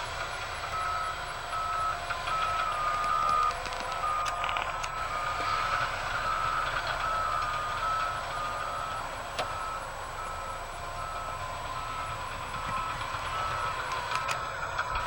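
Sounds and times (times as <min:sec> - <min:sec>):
diesel engine running: 0:00.0 - 0:15.0
reversing alarm beeping: 0:00.0 - 0:15.0.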